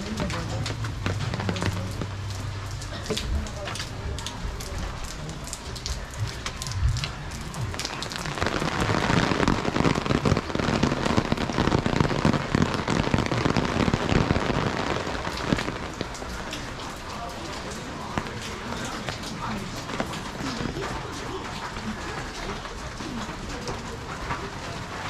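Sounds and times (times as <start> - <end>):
rain pattering on a surface: 0.0 - 25.0.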